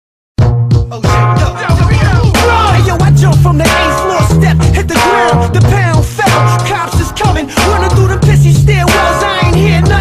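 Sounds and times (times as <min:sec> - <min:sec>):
hip hop music with heavy bass: 0:00.4 - 0:10.0.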